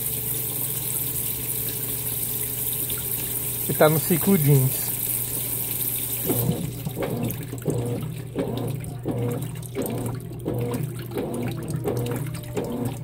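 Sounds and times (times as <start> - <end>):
washing machine motor hum: 0.0 - 13.0
water sloshing in washing machine: 0.0 - 13.0.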